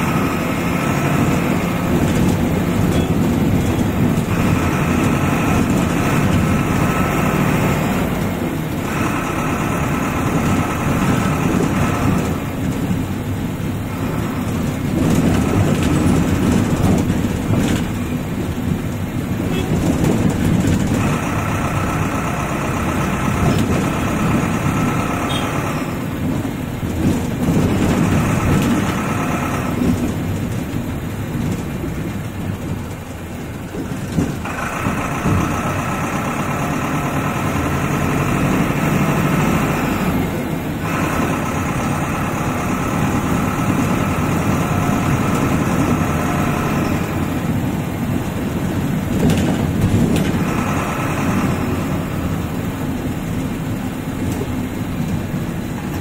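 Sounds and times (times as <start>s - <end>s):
bus engine rumbling: 0.0s - 56.0s
steady engine whine: 0.0s - 56.0s.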